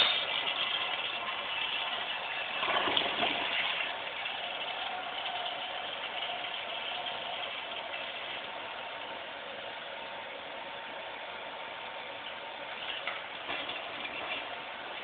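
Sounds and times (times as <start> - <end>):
toilet flushing: 0.0 - 15.0
water running as toilet refills: 0.0 - 15.0.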